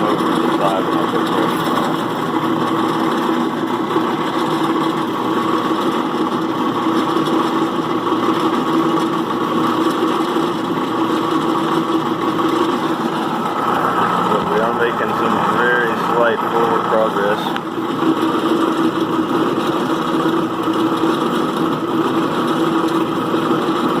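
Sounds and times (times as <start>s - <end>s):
die grinder whining: 0.0s - 24.0s.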